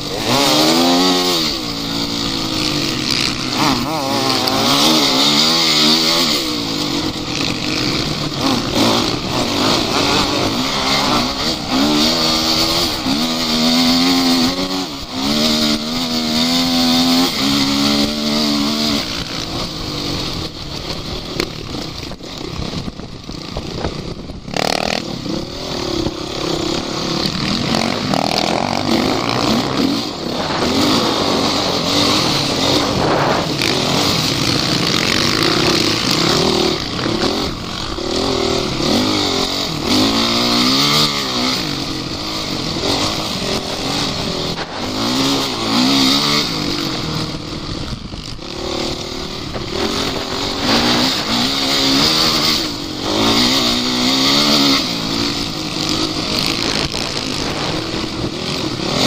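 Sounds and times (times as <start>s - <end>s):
vehicle engine revving: 0.0s - 22.5s, 23.4s - 59.0s.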